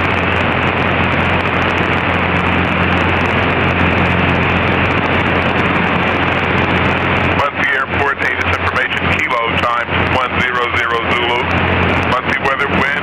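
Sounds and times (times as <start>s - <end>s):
light aircraft engine drone: 0.0s - 13.0s
low steady hum: 0.0s - 13.0s.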